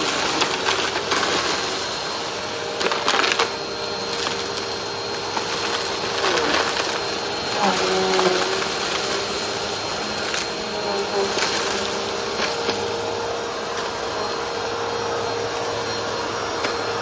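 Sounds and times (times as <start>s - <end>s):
crumbs clicking in vacuum: 0.0s - 14.2s
vacuum cleaner running: 0.0s - 17.0s.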